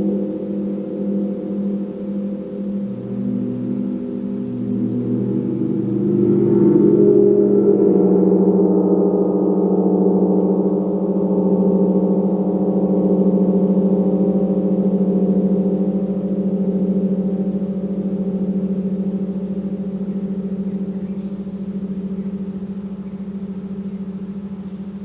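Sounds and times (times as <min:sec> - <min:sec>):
gong ringing: 0:00.0 - 0:24.3.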